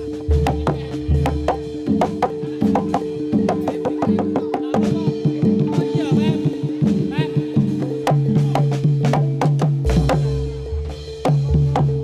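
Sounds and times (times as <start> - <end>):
driving drum pattern: 0.0 - 12.0
low drum notes: 0.0 - 12.0.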